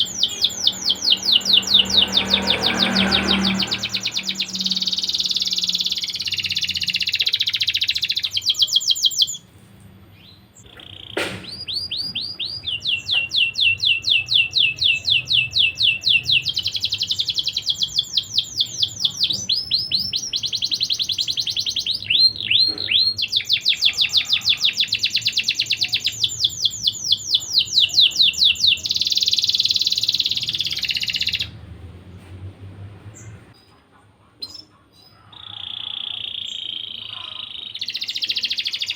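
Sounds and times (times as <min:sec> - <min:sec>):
canary singing trills: 0:00.0 - 0:09.5, 0:10.1 - 0:31.6, 0:34.4 - 0:38.9.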